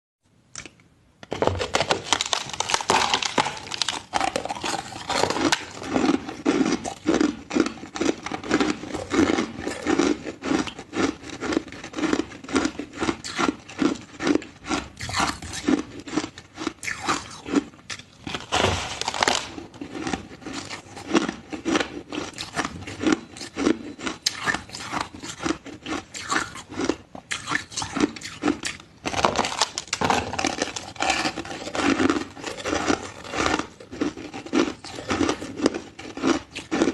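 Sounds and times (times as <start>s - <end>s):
ice being chewed: 1.7s - 36.9s.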